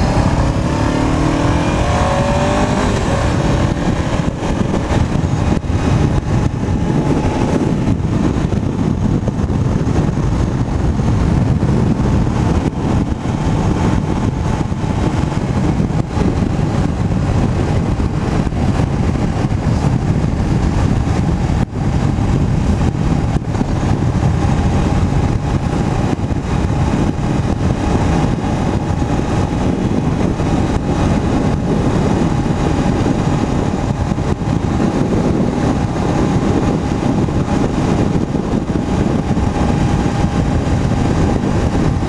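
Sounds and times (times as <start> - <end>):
motorcycle engine drone: 0.0 - 42.0
wind rushing over microphone: 0.0 - 42.0.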